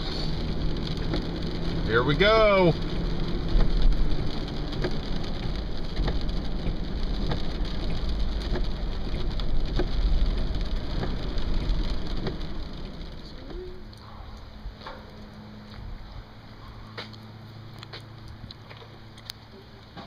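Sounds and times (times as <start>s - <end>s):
heavy rain falling: 0.0s - 20.0s
sharp raindrops striking close by: 0.0s - 20.0s.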